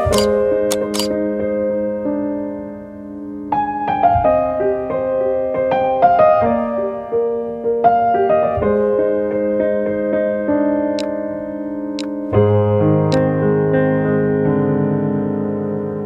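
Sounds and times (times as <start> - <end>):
piano background music: 0.0 - 16.0.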